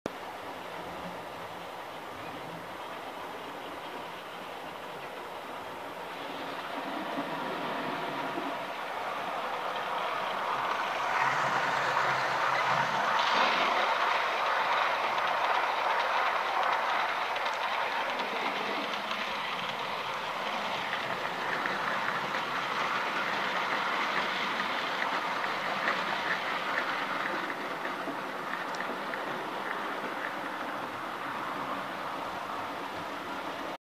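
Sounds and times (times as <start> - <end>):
model train wheels rattling on rails: 1.0 - 33.8.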